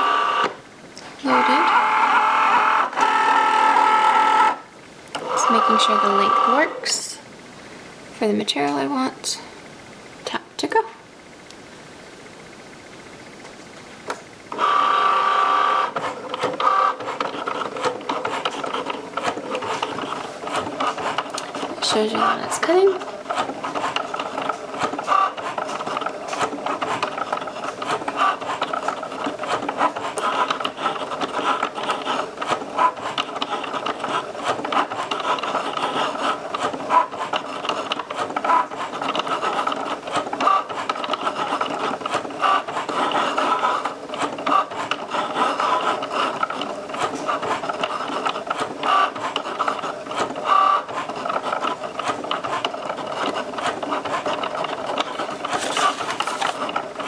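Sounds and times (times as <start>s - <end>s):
cutting machine motors whirring: 0.0s - 7.1s, 14.4s - 57.0s.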